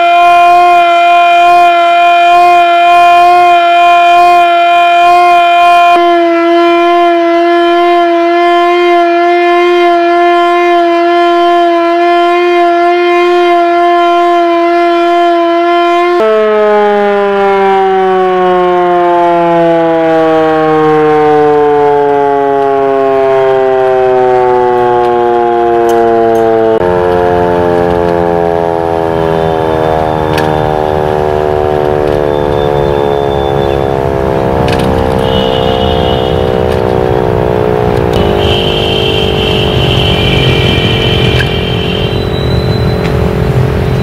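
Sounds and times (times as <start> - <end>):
siren wailing: 0.0 - 44.0.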